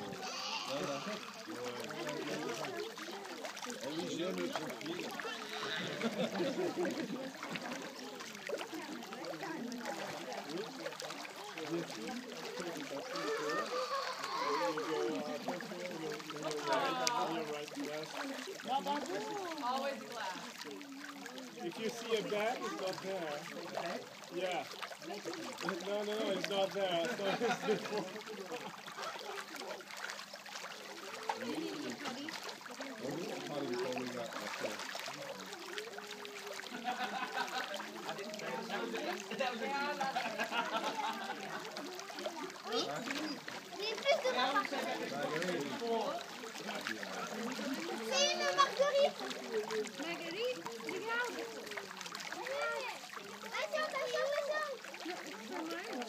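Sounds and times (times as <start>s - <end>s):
people chattering: 0.0s - 56.0s
people talking indistinctly: 0.0s - 56.0s.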